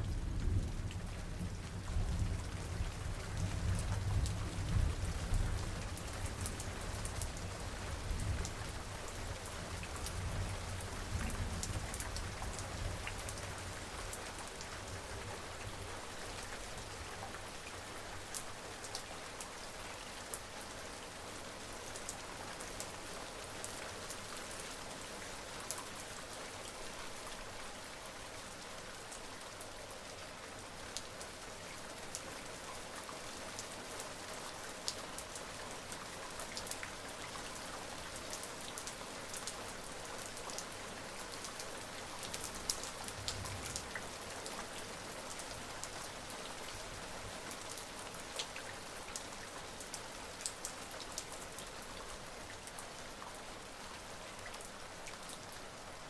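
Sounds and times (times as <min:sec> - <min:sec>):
steady rain with ticking drops: 0:00.0 - 0:56.0.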